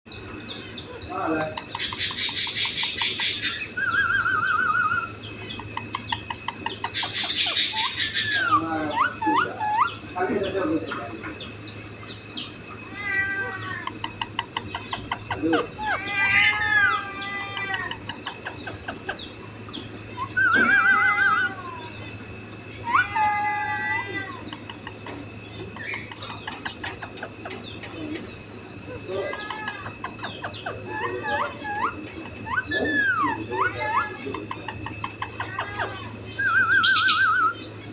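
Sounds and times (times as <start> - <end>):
parrots chirping and whistling: 1.6 - 10.6, 12.2 - 37.9.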